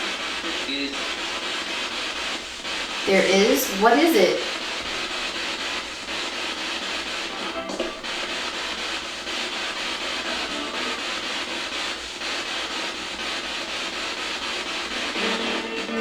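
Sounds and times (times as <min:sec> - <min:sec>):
radio static hiss: 0:00.0 - 0:16.0
snatches of radio broadcast: 0:00.0 - 0:16.0.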